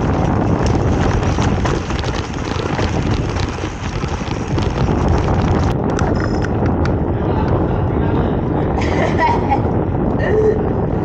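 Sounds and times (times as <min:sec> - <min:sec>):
bike rattling over bumps: 0:00.0 - 0:10.1
wind buffeting microphone: 0:00.0 - 0:11.0.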